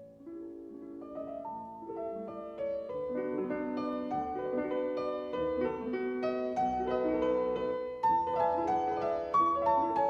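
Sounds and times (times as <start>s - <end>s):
solo piano piece: 0.0s - 10.0s.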